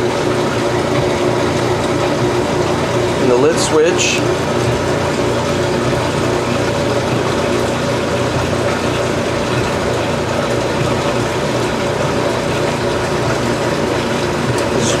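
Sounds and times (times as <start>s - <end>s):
washing machine pump humming: 0.0s - 15.0s
water rushing out: 0.0s - 15.0s.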